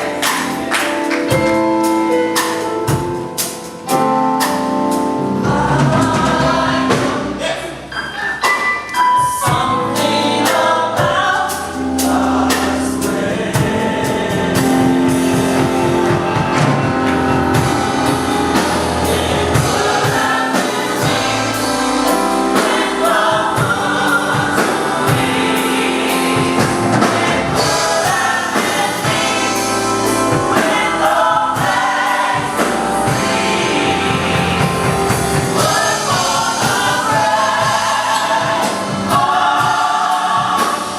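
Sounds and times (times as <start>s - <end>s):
band accompaniment with beat: 0.0s - 40.9s
gospel choir singing: 0.0s - 40.9s.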